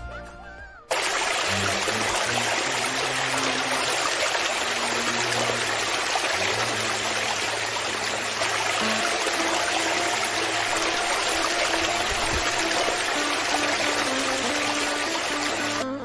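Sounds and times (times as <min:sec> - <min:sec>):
background music: 0:00.0 - 0:04.2, 0:04.9 - 0:16.0
running water rushing: 0:00.9 - 0:15.8.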